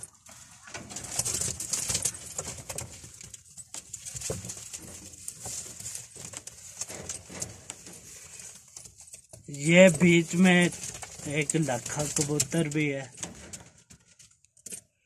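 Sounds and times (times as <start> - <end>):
pigeons rustling: 0.0 - 14.3.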